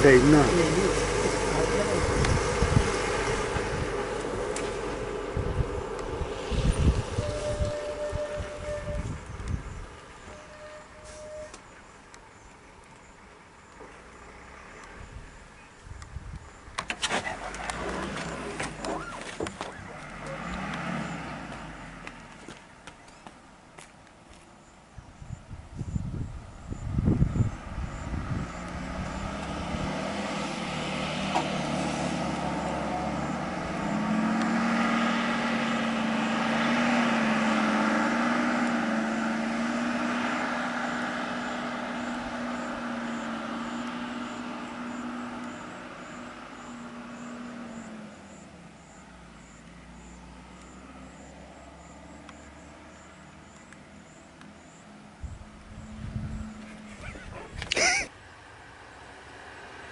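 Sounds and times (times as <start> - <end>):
vehicle engine droning: 0.0 - 23.6, 24.6 - 59.9.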